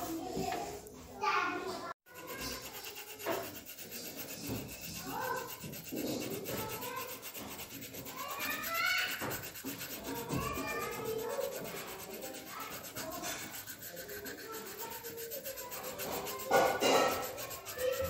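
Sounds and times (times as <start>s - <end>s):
pencil scratching on paper: 2.0s - 18.0s.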